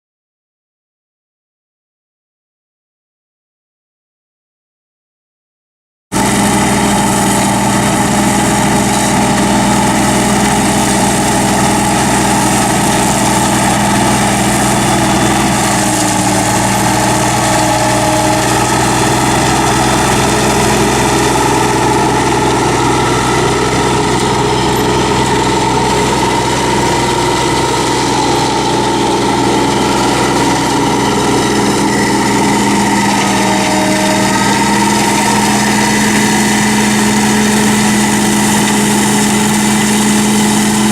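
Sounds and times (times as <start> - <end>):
tractor diesel engine running: 6.2 - 40.9.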